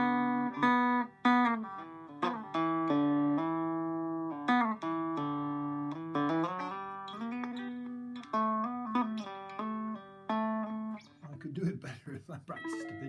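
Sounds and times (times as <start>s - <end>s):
electric banjo picked slowly: 0.0s - 11.5s.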